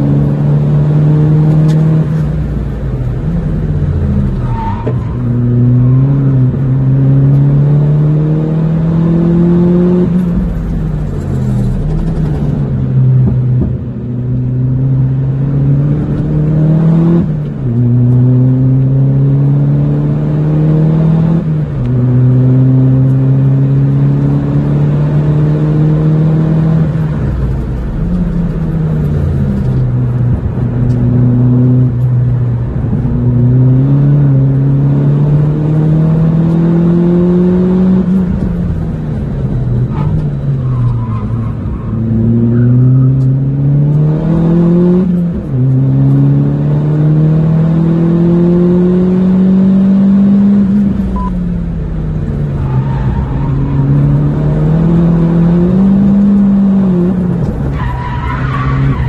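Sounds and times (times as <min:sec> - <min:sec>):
turbocharged car engine revving: 0:00.0 - 0:59.0.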